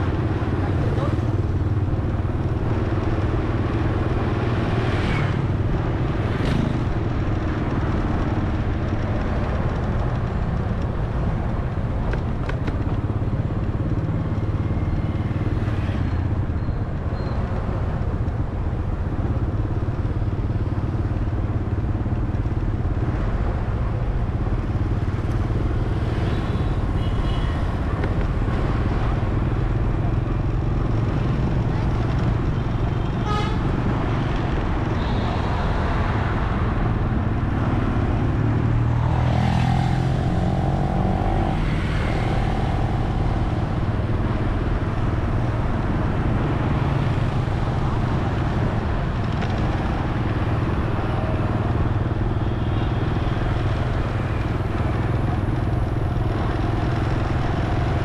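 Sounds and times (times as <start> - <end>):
road traffic rush: 0.0 - 58.0.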